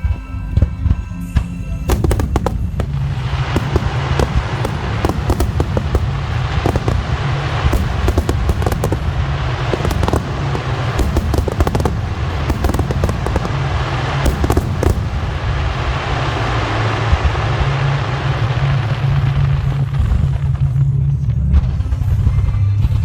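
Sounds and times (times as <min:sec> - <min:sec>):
fireworks bangs and crackles: 0:00.0 - 0:23.0
deep steady rumble: 0:01.5 - 0:23.0.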